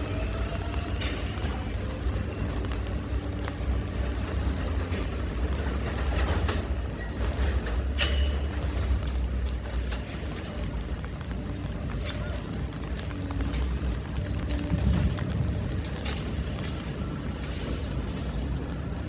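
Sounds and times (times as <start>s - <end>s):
subway train rumbling: 0.0s - 19.0s
wheels clanking on track: 0.0s - 19.0s.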